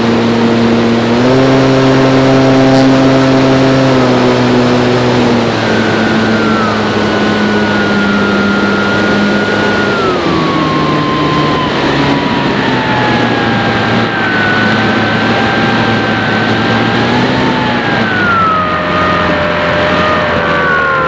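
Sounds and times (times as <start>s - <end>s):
model plane motor and propeller: 0.0s - 21.0s.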